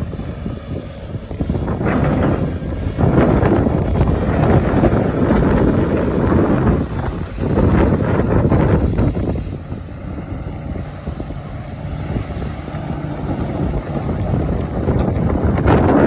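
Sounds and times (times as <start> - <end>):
excavator engine rumbling: 0.0 - 16.0.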